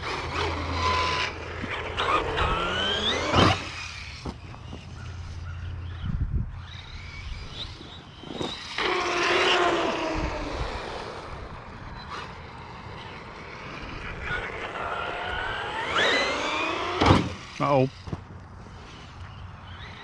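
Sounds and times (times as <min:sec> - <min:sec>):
rc buggy motor whine: 0:00.0 - 0:20.0.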